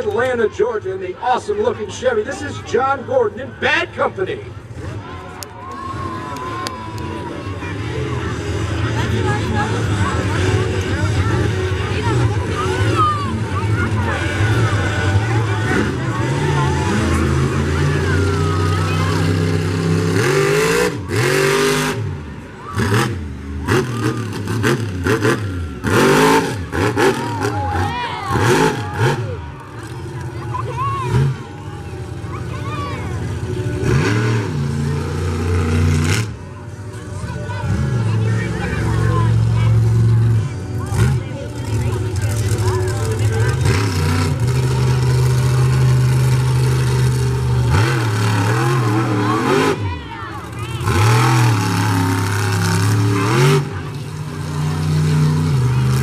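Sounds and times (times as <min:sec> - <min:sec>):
monster truck engine revving: 0:04.5 - 0:56.0.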